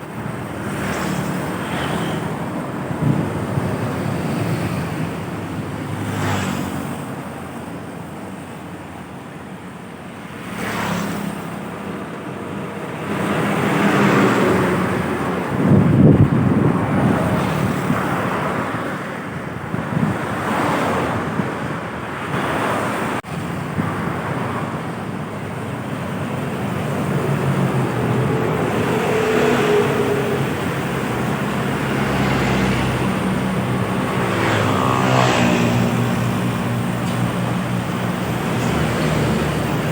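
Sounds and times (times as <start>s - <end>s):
tyre and wind noise: 0.0s - 7.5s, 13.0s - 39.9s
trucks and buses driving past: 0.0s - 39.9s.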